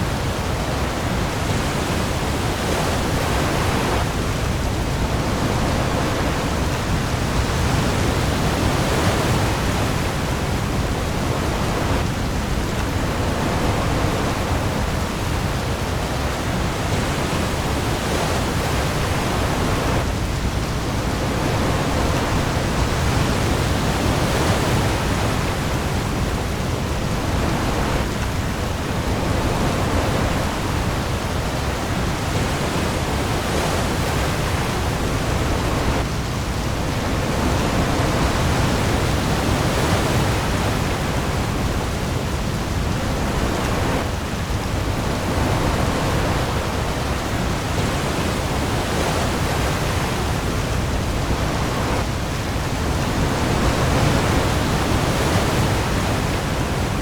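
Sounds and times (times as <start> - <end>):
waves: 0.0 - 57.0.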